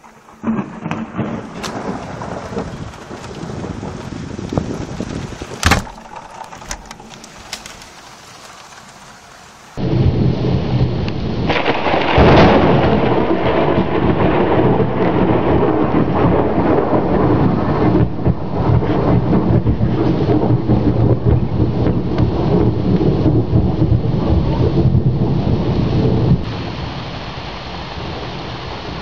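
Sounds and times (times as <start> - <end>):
rolling thunder: 0.0 - 7.8, 9.8 - 27.1
heavy rain: 0.0 - 29.0
steady rain: 0.0 - 29.0.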